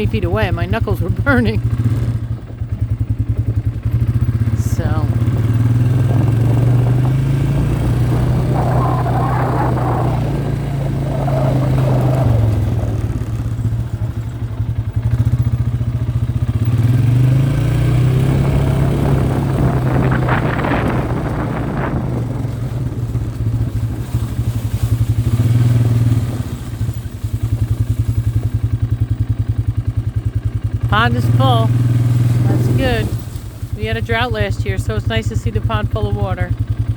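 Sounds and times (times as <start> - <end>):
quad engine running: 0.0 - 36.9.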